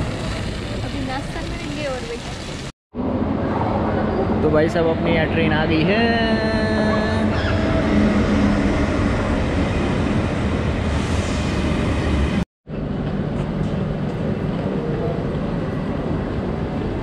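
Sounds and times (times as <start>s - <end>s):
train rumble with low hum: 0.0s - 17.0s.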